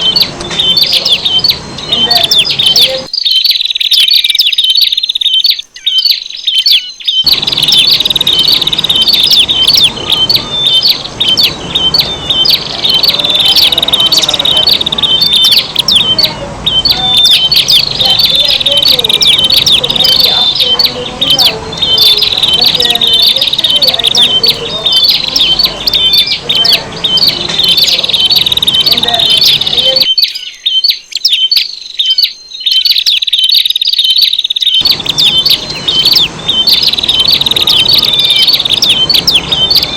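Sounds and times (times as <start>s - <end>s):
lower chattering sounds: 0.0s - 30.4s, 32.2s - 39.9s
birds chipping calls: 0.0s - 39.9s.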